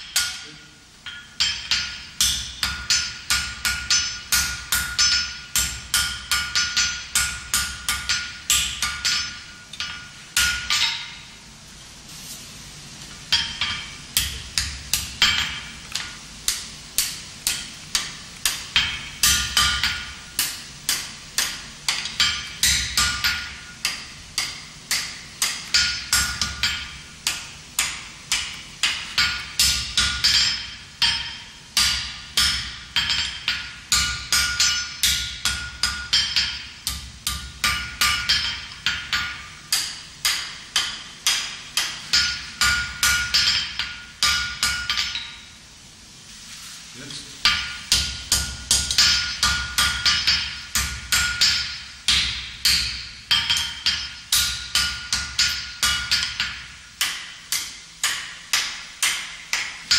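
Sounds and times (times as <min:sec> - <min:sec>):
hammer striking iron on anvil: 0:00.0 - 0:11.4, 0:13.3 - 0:45.6, 0:47.4 - 0:59.9.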